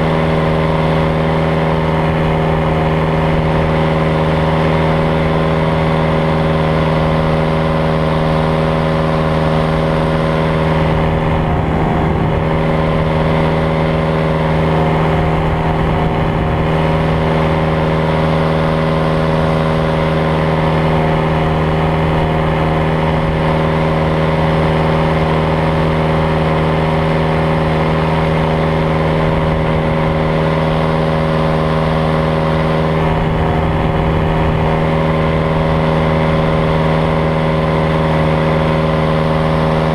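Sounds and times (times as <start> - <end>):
paraglider engine and propeller droning: 0.0 - 39.9.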